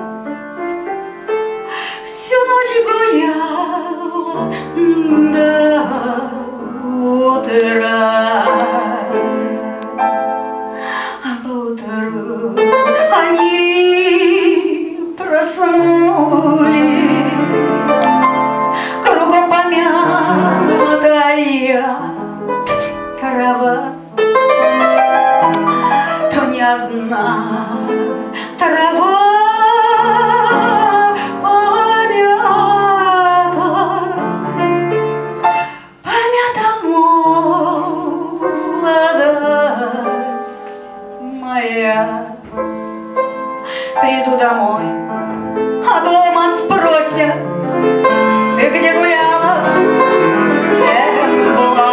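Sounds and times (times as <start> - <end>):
upright piano: 0.0 - 51.9
woman singing with vibrato: 2.0 - 9.6, 10.8 - 24.1, 25.8 - 34.6, 35.5 - 42.6, 43.6 - 45.1, 45.8 - 47.4, 48.5 - 51.9.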